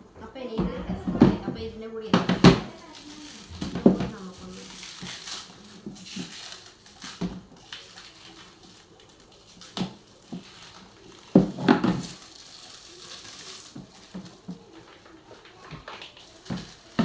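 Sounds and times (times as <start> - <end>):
plastic parts knocking and clattering: 0.6 - 17.0.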